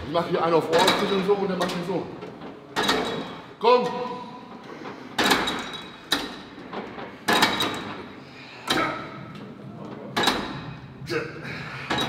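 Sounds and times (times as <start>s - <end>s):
gym weights clanking: 0.6s - 12.0s.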